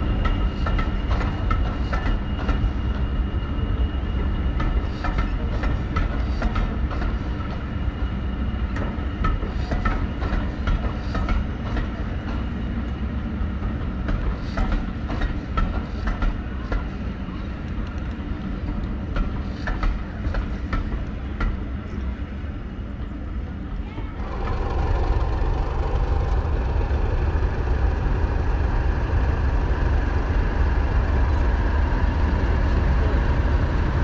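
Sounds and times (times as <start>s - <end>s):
diesel train rumbling: 0.0s - 34.0s.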